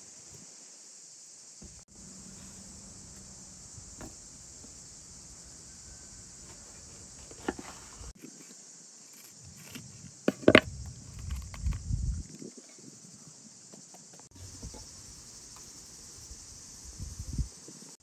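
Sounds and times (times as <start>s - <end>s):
high insect hiss: 0.0s - 18.0s.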